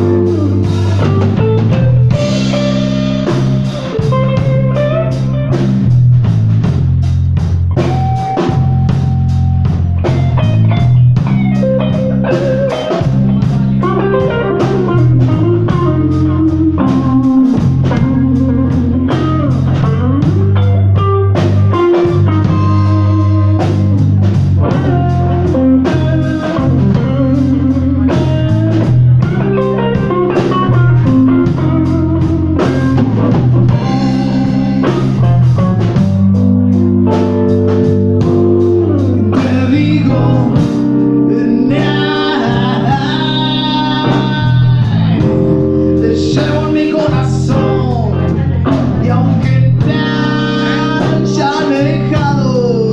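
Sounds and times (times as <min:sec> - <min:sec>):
bass guitar: 0:00.0 - 0:52.9
drum kit: 0:00.0 - 0:52.9
electric guitar lead: 0:00.0 - 0:52.9.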